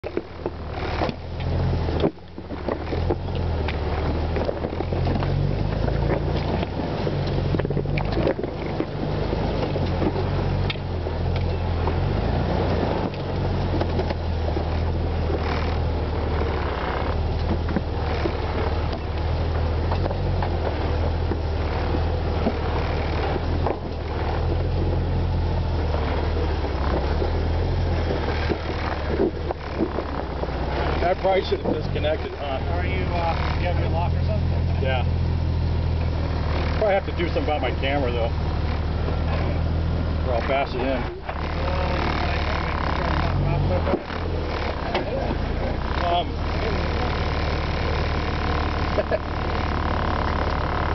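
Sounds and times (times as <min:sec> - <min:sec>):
engine running at low speed: 0:00.0 - 0:50.9.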